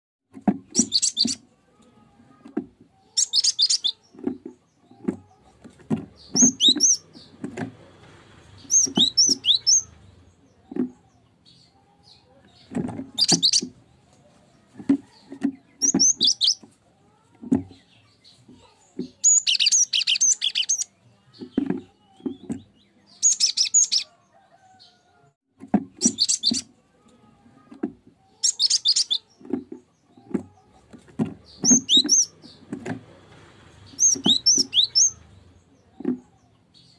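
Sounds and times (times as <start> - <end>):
bird chirping: 0.7 - 1.5, 3.1 - 7.7, 8.5 - 16.8, 17.6 - 25.0, 26.0 - 26.8, 28.3 - 33.2, 33.8 - 36.9.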